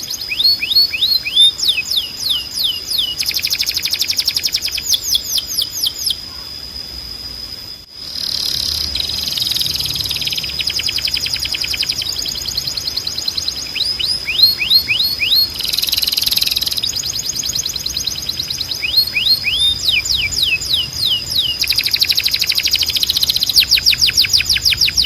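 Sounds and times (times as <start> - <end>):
canary singing trills: 0.0 - 6.5, 8.1 - 25.0.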